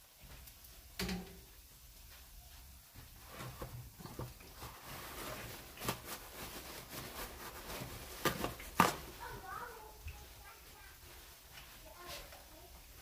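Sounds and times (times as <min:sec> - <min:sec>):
batter sizzling in hot oil: 0:00.0 - 0:13.0.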